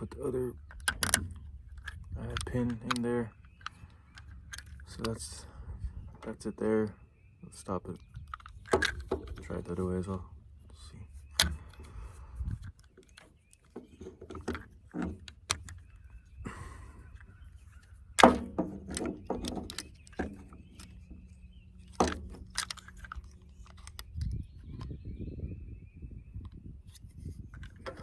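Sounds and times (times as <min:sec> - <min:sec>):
plastic parts clicking and tapping: 0:00.0 - 0:05.4, 0:07.9 - 0:10.2, 0:11.1 - 0:24.9, 0:26.9 - 0:28.0.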